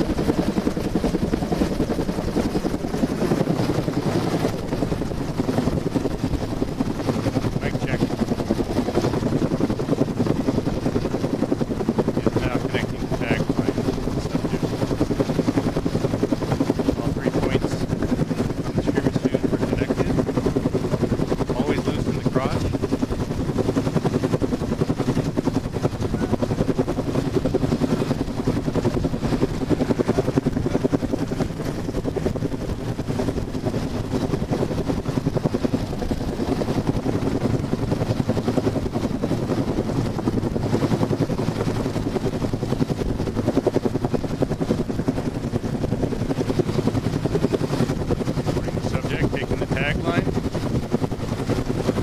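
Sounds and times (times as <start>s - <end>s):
helicopter rotor beating: 0.0s - 52.0s.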